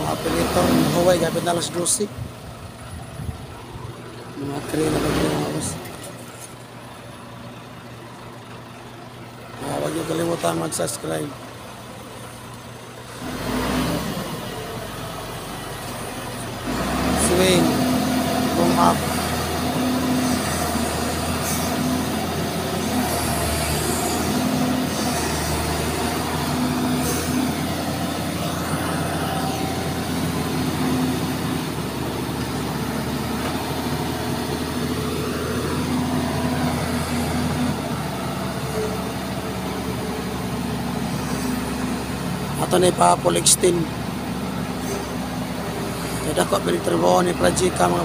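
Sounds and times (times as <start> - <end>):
diesel engine drone under load: 0.0 - 48.0.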